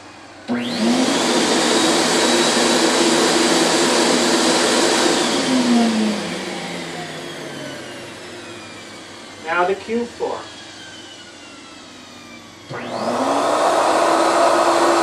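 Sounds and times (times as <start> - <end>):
turbine whining and humming: 0.0 - 15.0.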